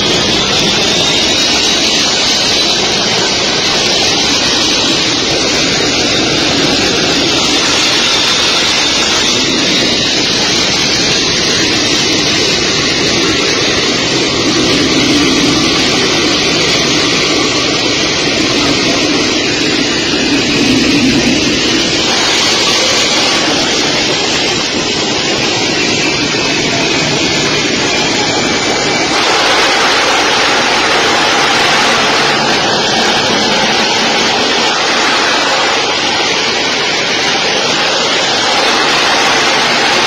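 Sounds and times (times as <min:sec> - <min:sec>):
high engine whine: 0:00.0 - 0:40.0
jet engines running: 0:00.0 - 0:40.0.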